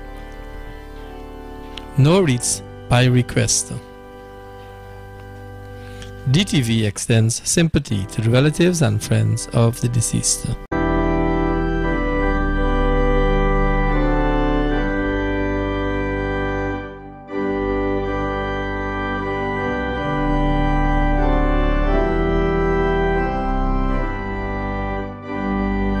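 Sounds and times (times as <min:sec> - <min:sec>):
organ playing slow chords: 0:00.0 - 0:26.0.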